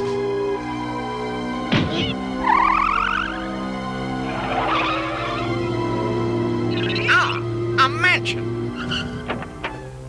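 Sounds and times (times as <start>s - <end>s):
cartoon background music low notes: 0.0s - 10.0s.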